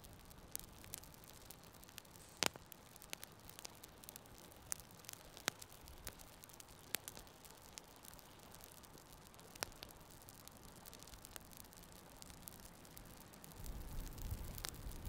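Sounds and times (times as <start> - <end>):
campfire crackling and popping: 0.0 - 15.0
faint steady hiss: 0.0 - 15.0.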